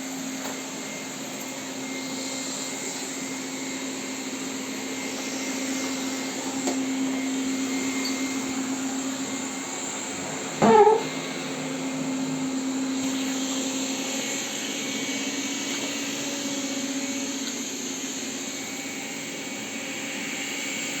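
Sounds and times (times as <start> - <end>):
robot vacuum humming: 0.1 - 21.0.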